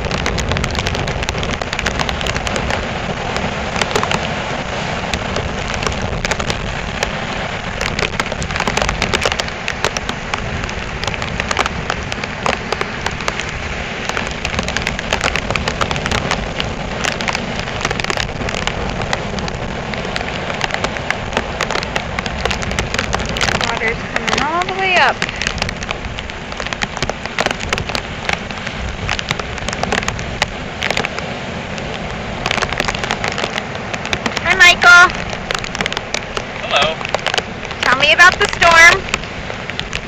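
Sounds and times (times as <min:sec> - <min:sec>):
heavy surf breaking: 0:00.0 - 0:40.0
strong storm wind: 0:00.0 - 0:40.0.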